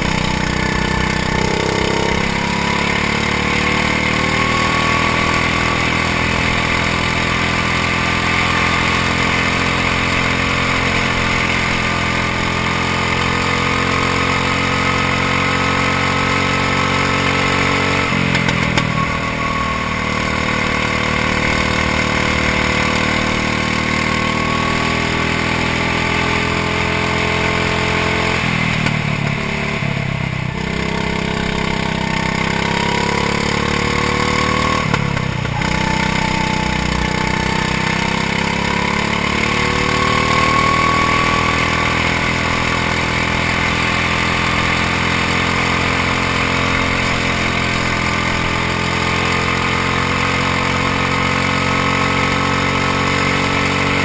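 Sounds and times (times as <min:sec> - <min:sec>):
go-kart engine racing: 0:00.0 - 0:54.0.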